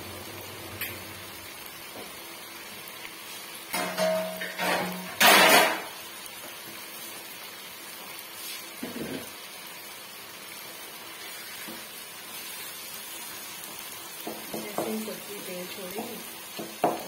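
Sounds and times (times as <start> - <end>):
vegetables frying in oil: 0.0 - 17.0.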